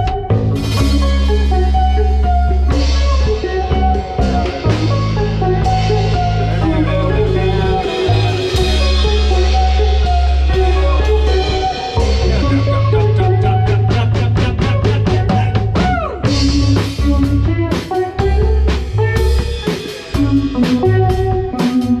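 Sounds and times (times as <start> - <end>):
deep held bass notes: 0.0 - 22.0
rock band jamming: 0.0 - 22.0.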